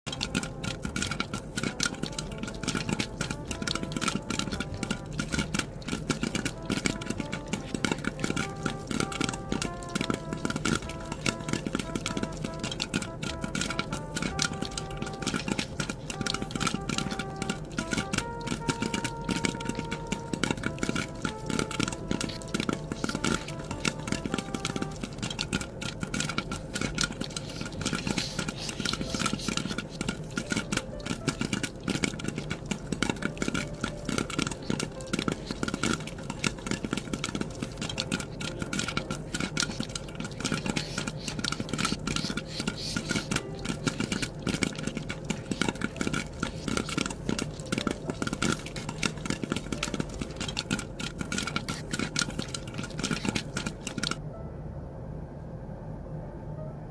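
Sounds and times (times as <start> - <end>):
small hard objects clicking: 0.0 - 54.2
steady low hum: 0.1 - 56.9.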